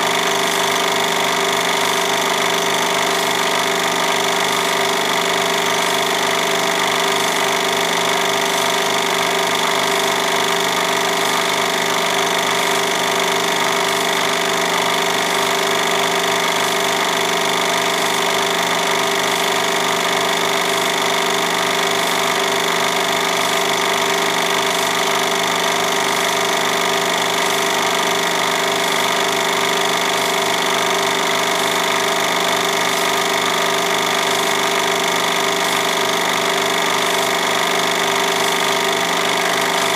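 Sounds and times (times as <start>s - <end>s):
mechanical chatter: 0.0s - 39.9s
projector motor hum: 0.0s - 39.9s.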